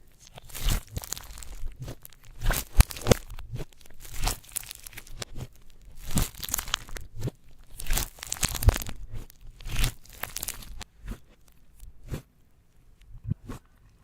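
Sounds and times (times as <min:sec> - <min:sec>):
slime being squished and mixed: 0:00.0 - 0:12.3.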